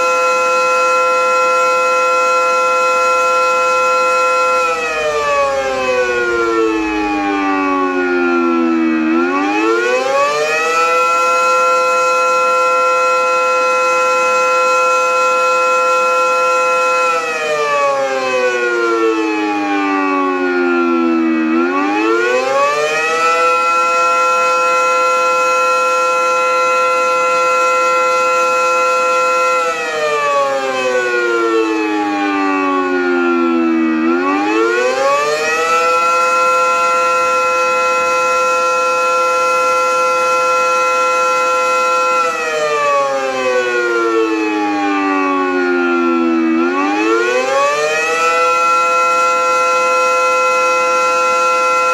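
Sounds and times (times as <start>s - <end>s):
air raid siren wailing: 0.0s - 51.9s.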